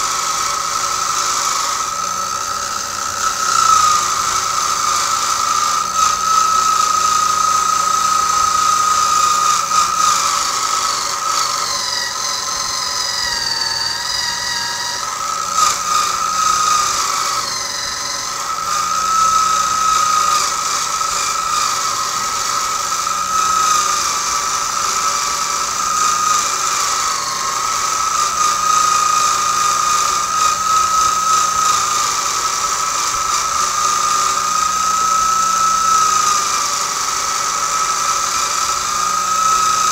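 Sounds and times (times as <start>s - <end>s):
wire wheel brushing steel: 0.0s - 39.9s.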